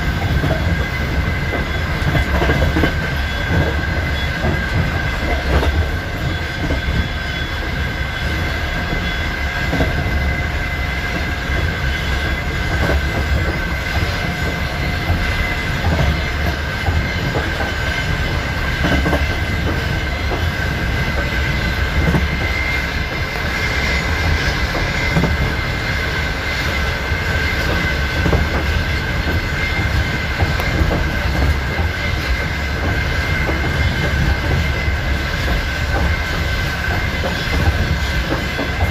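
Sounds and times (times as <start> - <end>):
high-pitched squeal: 0.0 - 38.9
train wheels clattering on rails: 0.0 - 38.9.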